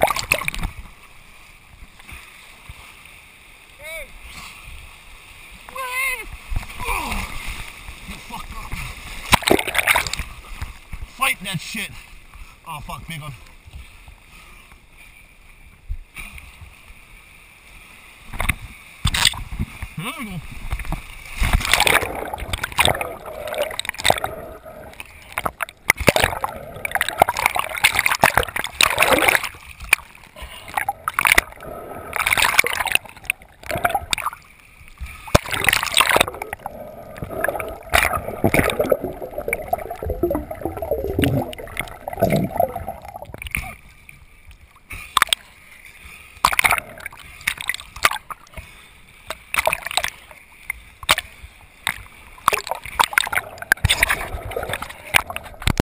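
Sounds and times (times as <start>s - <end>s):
water rushing and bubbling: 0.0s - 14.2s, 17.7s - 55.8s
muffled underwater sloshing: 0.0s - 17.0s, 17.9s - 55.8s
waves splashing: 0.0s - 55.8s.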